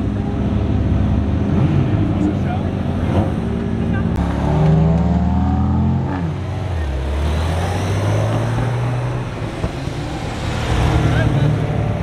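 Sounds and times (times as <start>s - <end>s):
sports car engines pulling away: 0.0s - 12.0s.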